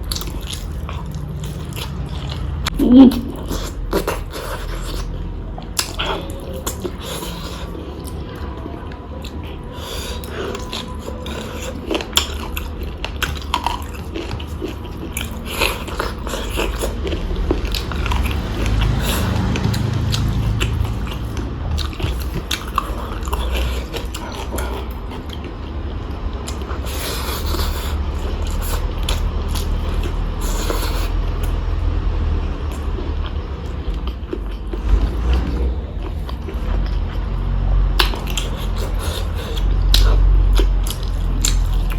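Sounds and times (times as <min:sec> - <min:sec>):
person chewing and biting: 0:00.0 - 0:08.2, 0:09.2 - 0:31.7, 0:37.9 - 0:41.9.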